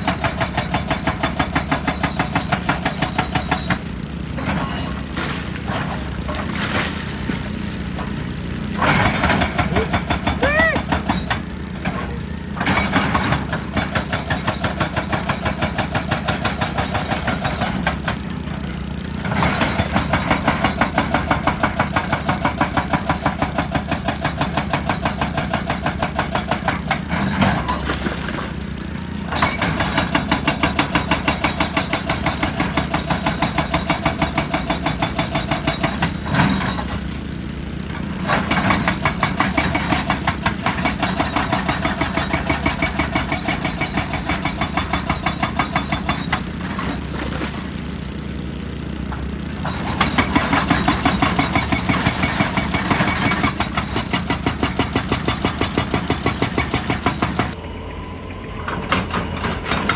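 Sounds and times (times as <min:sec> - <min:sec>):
hydraulic breaker hammering rock: 0:00.0 - 0:57.6, 0:58.5 - 0:59.9
diesel engine running: 0:00.0 - 0:59.9.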